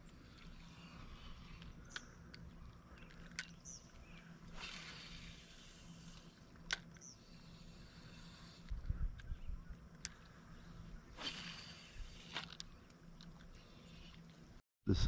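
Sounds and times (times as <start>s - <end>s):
faint lakeside ambience: 0.0s - 15.0s.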